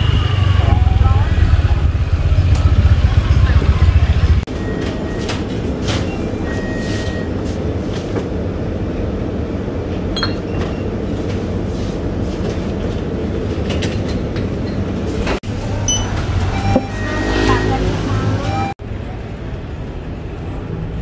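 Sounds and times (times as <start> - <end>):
low rumbling store ambience: 0.0 - 21.0.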